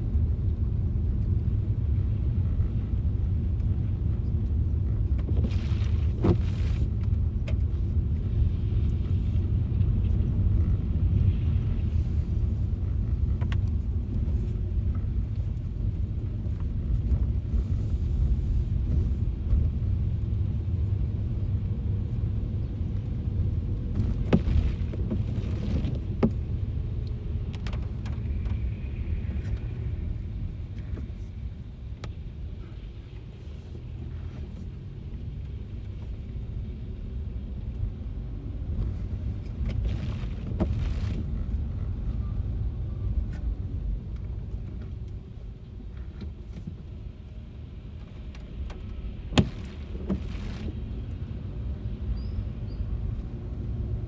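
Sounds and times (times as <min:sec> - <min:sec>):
car interior rumble: 0:00.0 - 0:54.0.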